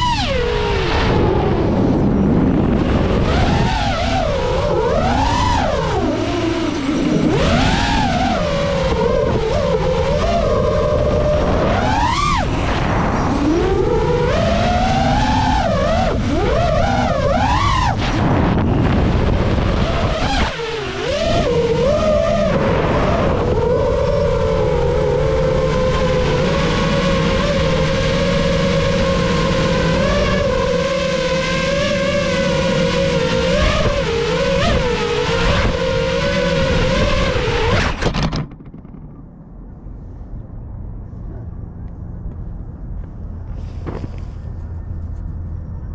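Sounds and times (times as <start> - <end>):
drone motors whining: 0.0 - 45.9.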